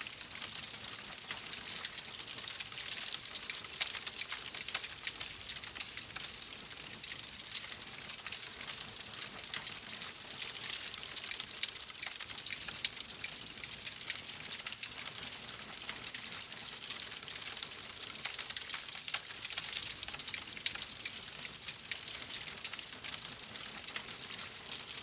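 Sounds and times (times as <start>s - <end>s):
wood fire crackling: 0.1s - 25.0s.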